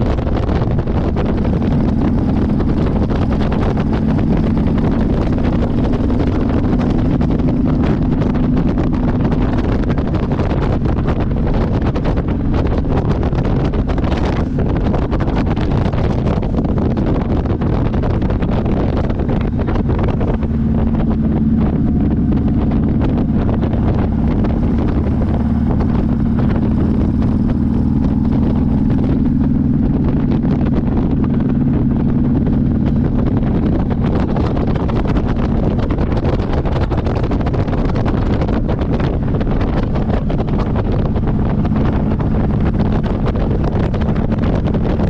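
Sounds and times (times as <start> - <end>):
motorcycle engine running: 0.0 - 45.0
wind noise on microphone: 0.0 - 45.0.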